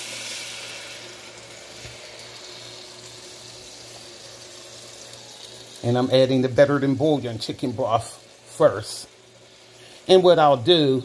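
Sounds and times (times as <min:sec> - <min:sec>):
broth pouring into pot: 0:00.0 - 0:11.0.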